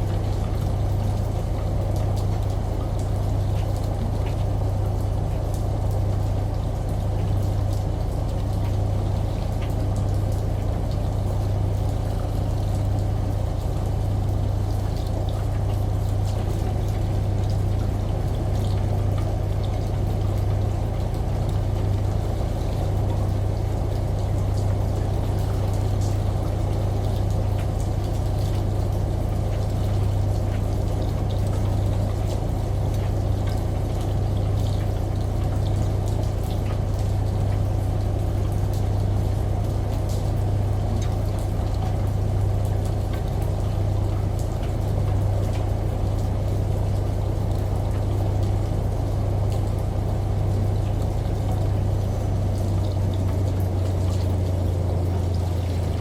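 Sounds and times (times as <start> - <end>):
washing machine motor hum: 0.0 - 56.0
water sloshing in drum: 0.0 - 56.0.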